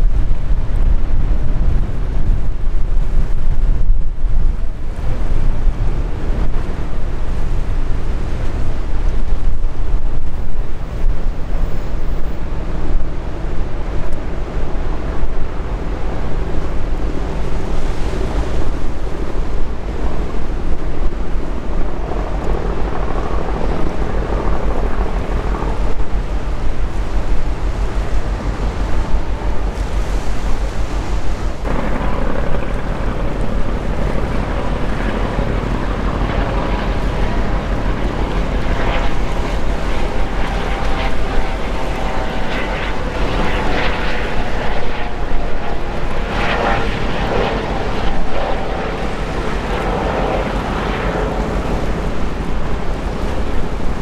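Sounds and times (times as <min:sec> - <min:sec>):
wind buffeting microphone: 0:00.0 - 0:54.0
sea waves washing: 0:01.1 - 0:54.0.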